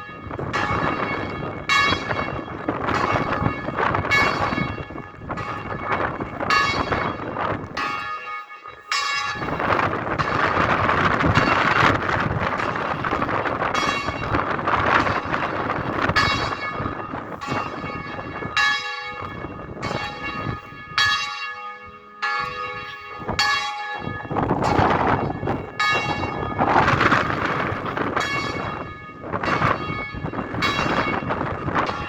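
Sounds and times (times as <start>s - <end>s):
bells ringing: 0.0s - 32.0s
wind buffeting microphone: 0.0s - 32.0s.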